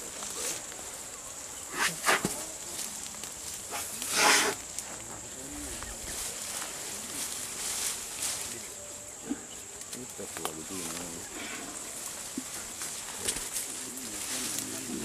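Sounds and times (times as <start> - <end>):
faint voices: 0.0 - 15.0
high insect drone: 0.0 - 15.0.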